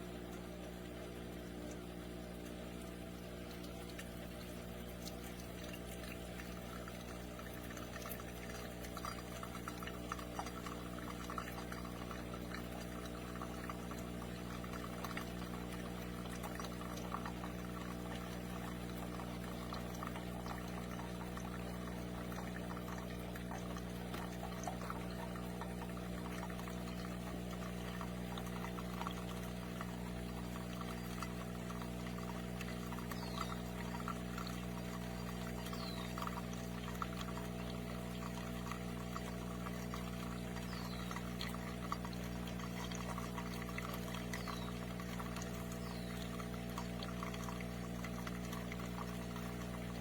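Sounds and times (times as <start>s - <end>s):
coffee machine humming: 0.0s - 50.0s
coffee trickling into cup: 0.0s - 50.0s.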